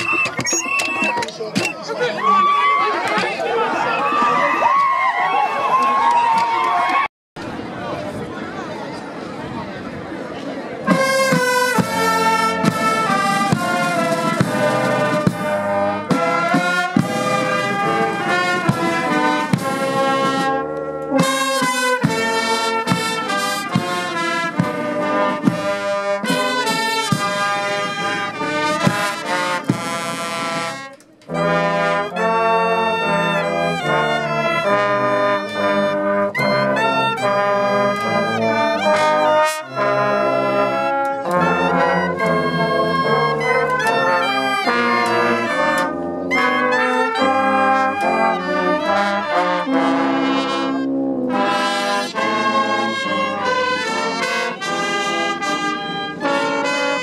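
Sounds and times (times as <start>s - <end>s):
brass band playing lively tune: 0.0s - 4.7s, 10.8s - 57.0s.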